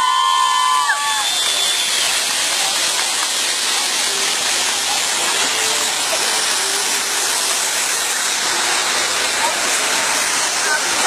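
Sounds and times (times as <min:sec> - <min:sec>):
spark fountains hissing: 0:00.0 - 0:11.0.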